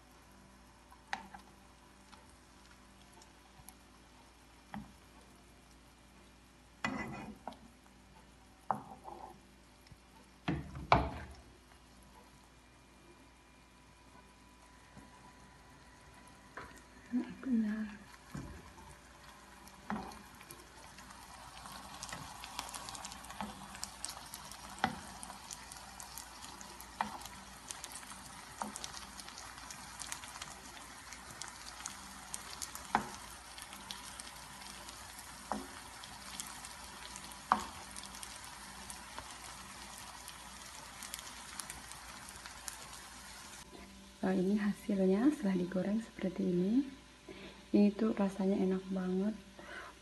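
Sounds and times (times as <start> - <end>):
food sizzling in oil: 0.0 - 12.5, 14.6 - 46.8.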